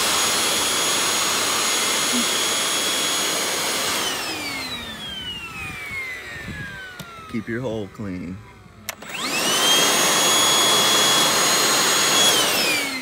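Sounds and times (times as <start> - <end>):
handheld vacuum whining: 0.0 - 13.0.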